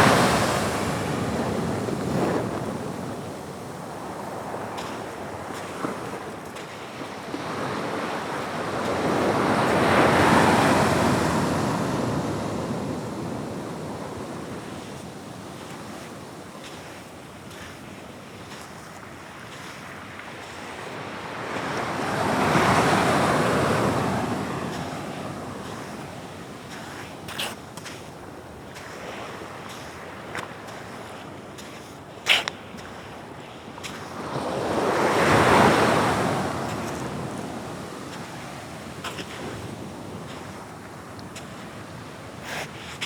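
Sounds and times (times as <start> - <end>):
waves breaking on rocky shore: 0.0 - 43.0.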